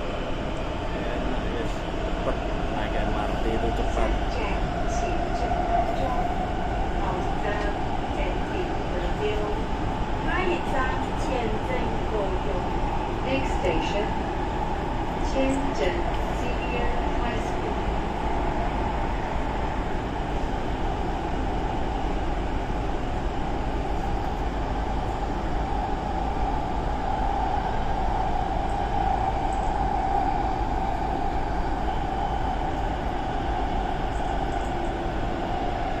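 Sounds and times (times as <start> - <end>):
train rumbling inside carriage: 0.0 - 36.0.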